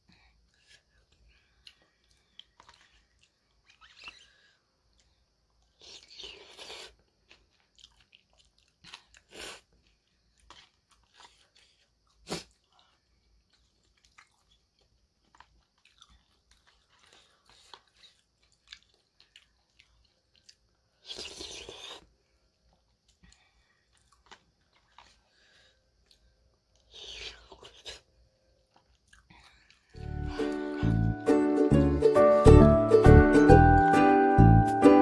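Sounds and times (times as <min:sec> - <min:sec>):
quiet chewing: 0:00.1 - 0:31.2.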